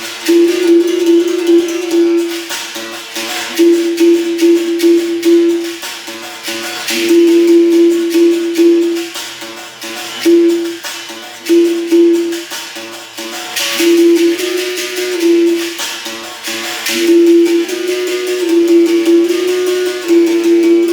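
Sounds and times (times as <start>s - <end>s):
shaker rattle: 0.0s - 20.9s.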